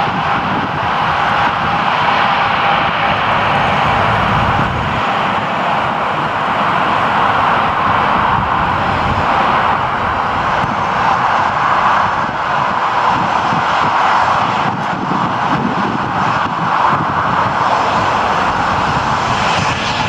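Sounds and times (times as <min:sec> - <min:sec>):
airliner engines rushing: 0:00.0 - 0:20.0.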